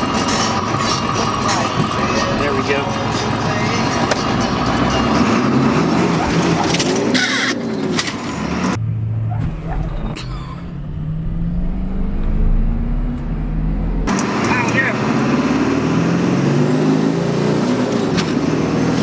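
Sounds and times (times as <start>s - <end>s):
diesel truck accelerating: 0.0s - 19.0s.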